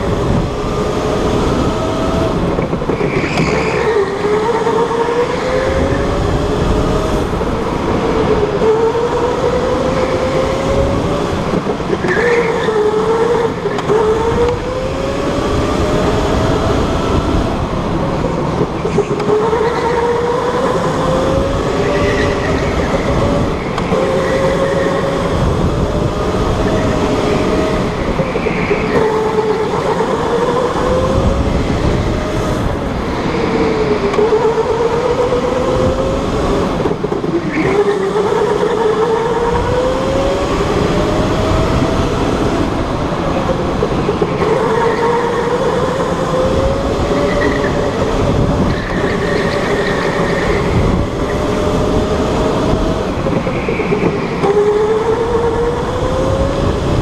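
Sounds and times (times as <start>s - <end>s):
electric go-kart motor whining: 0.0s - 57.0s.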